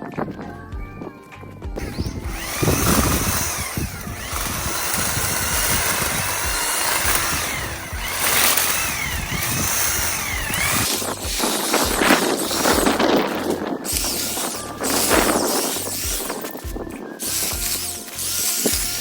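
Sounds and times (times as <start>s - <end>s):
hedge trimmer cutting: 1.8s - 19.0s.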